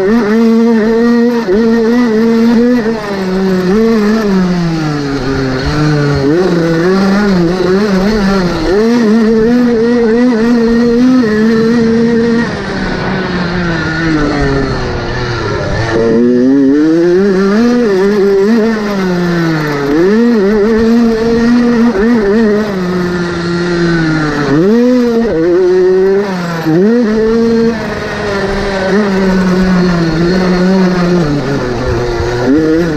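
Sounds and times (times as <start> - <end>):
motocross bike engine revving: 0.0 - 32.9.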